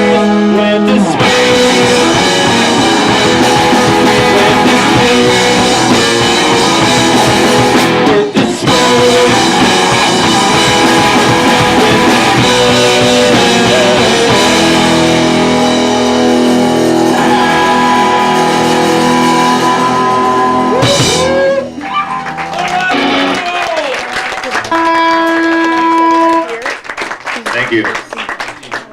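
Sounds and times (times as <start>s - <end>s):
rock band playing live: 0.0s - 26.6s.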